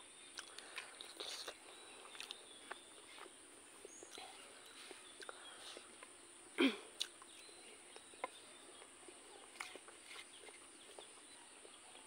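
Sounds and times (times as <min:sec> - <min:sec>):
bird chirps: 0:00.0 - 0:12.0
high insect hum: 0:00.0 - 0:12.0.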